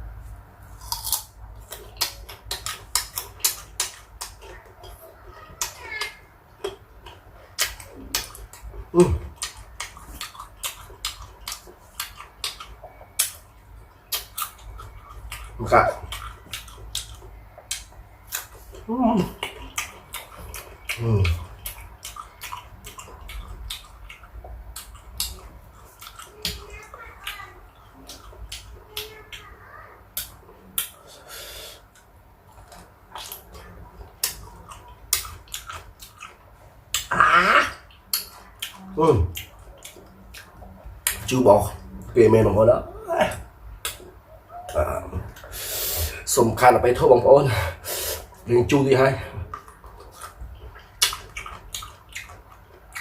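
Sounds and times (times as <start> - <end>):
chewing crisp fruit: 0.2 - 47.2, 47.9 - 53.0.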